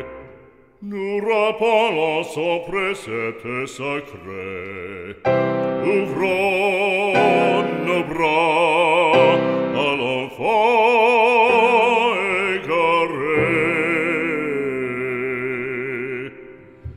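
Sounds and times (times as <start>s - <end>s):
operatic solo singing: 0.0s - 16.8s.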